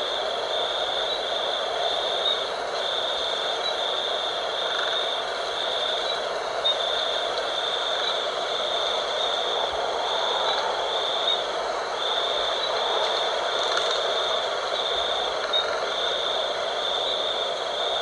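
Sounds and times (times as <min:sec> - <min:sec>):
high insect trill: 0:00.0 - 0:18.0.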